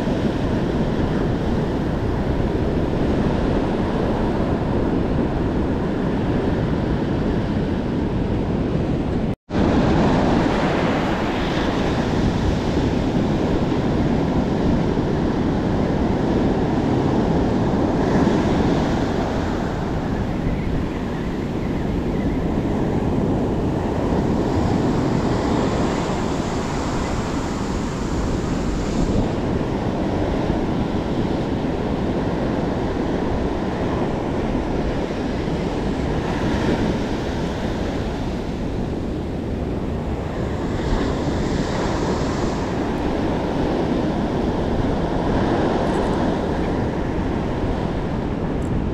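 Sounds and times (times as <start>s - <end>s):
waves breaking on a beach: 0.0s - 48.9s
wind buffeting microphone: 0.0s - 48.9s.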